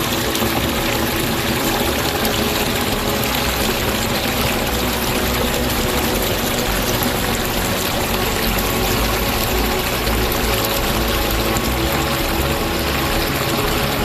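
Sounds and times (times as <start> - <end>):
water pouring over rock ledge: 0.0 - 14.0.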